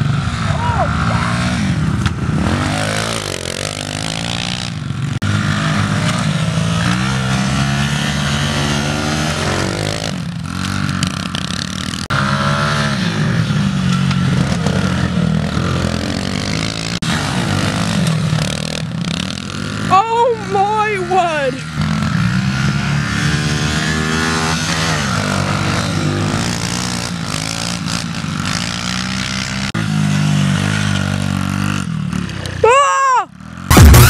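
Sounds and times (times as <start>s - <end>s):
pit bike engines revving: 0.0s - 34.0s.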